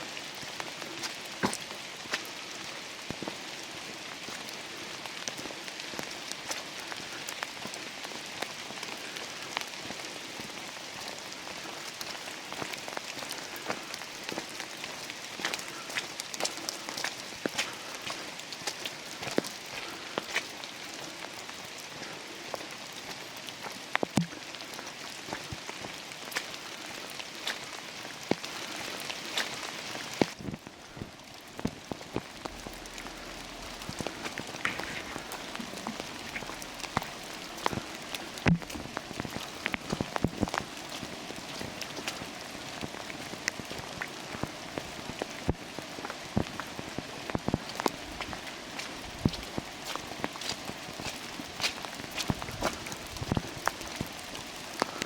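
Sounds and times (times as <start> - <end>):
rain hissing in forest: 0.0 - 55.0
raindrops tapping surfaces: 0.0 - 55.0.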